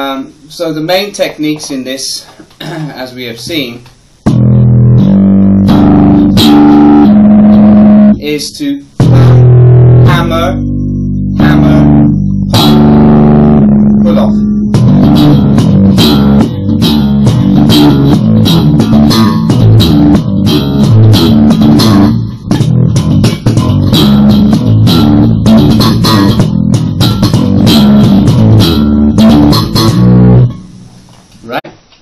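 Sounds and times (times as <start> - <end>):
slap bass funk groove: 4.3 - 8.2, 9.0 - 30.7.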